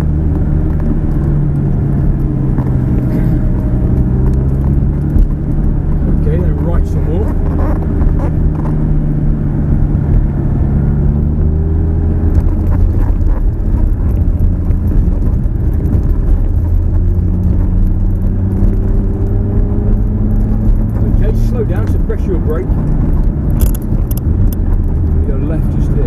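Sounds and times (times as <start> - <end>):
car engine at low revs: 0.0 - 26.0
tyre road rumble: 0.0 - 26.0.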